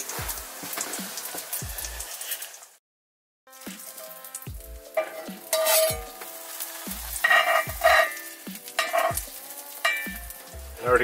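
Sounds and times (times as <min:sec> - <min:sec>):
background music with kick drum: 0:00.0 - 0:02.2, 0:03.5 - 0:11.0
sandwich sizzling in a skillet: 0:00.0 - 0:02.8, 0:03.5 - 0:11.0.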